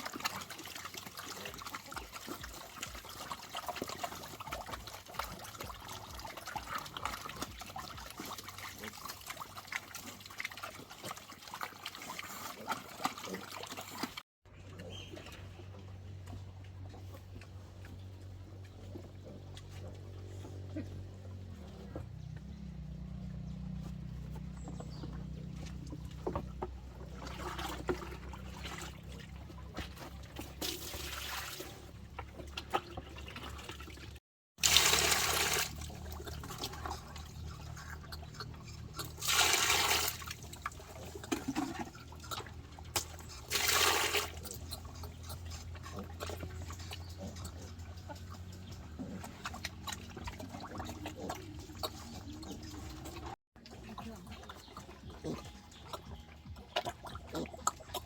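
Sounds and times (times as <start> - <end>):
water pouring or sloshing: 0.0 - 14.2, 25.7 - 58.0.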